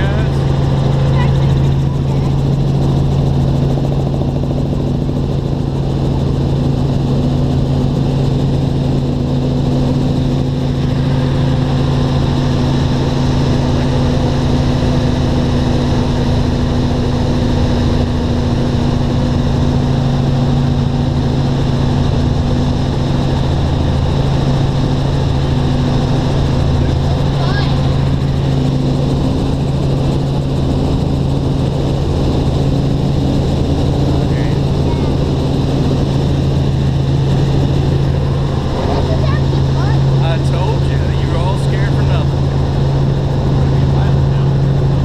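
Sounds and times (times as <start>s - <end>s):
helicopter rotor drone: 0.0s - 45.0s.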